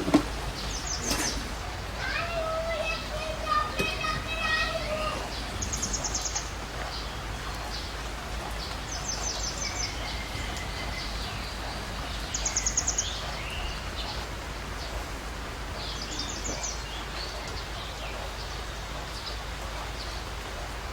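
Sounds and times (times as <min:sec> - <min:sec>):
outdoor background noise: 0:00.0 - 0:20.9.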